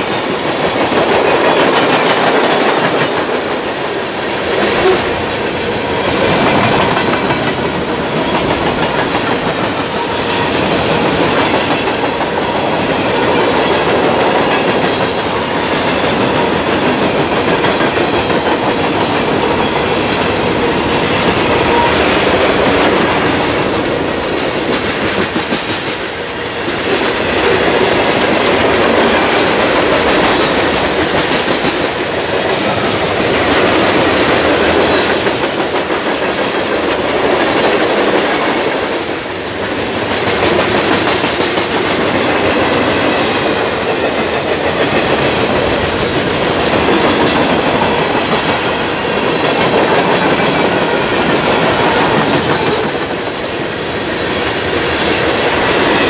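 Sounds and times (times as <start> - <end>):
clickety-clack over rail joints: 0.0 - 56.0
freight train wheels on rails: 0.0 - 56.0.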